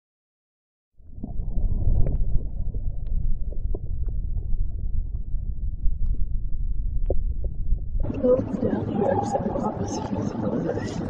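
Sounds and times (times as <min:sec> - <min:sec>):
deep muffled rumbling drone: 0:01.0 - 0:11.0.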